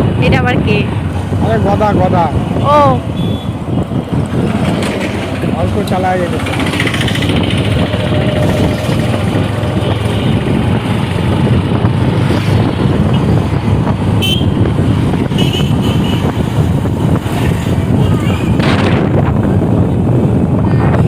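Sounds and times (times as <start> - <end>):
wind rush on microphone: 0.0 - 21.0
motorcycle engine: 1.0 - 20.5.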